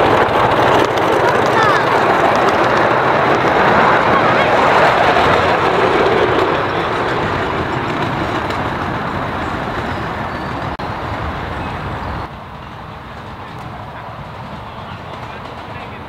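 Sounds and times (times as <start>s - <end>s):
miniature train running on track: 0.0s - 16.0s.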